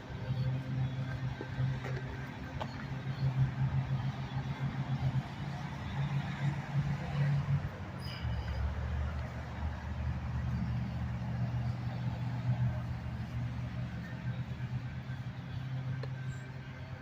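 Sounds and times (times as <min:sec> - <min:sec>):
street noise: 0:00.0 - 0:17.0
vehicle engine humming: 0:00.0 - 0:17.0.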